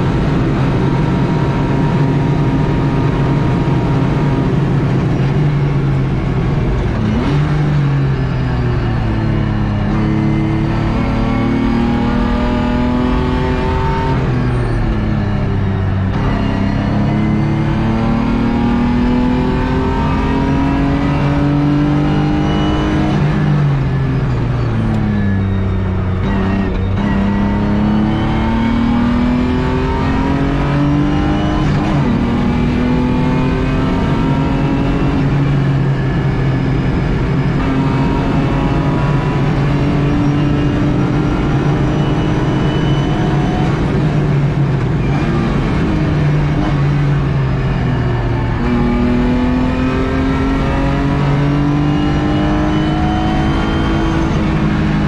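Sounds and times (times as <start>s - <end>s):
race car engine accelerating: 0.0s - 55.0s
road and wind noise: 0.0s - 55.0s.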